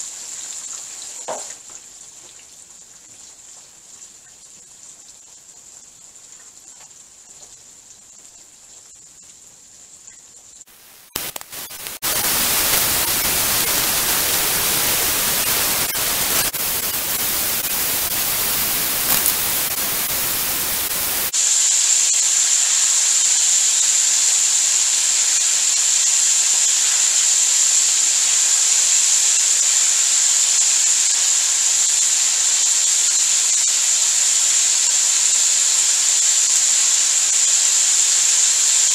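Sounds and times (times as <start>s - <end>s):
food sizzling in hot oil: 0.0s - 38.9s.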